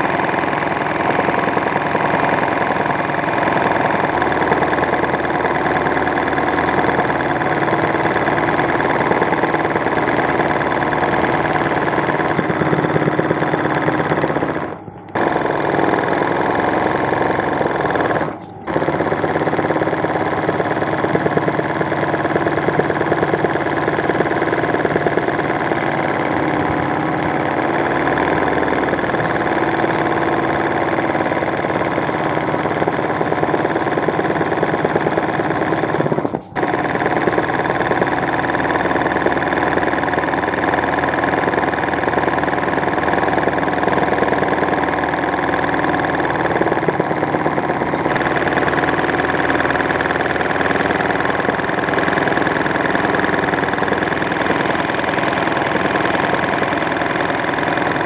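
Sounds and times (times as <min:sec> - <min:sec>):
sewing machine running: 0:00.0 - 0:58.0.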